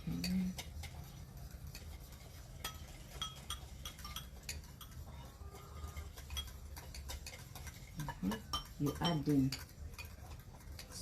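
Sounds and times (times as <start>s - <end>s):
spoons clinking against bowls: 0.0s - 11.0s.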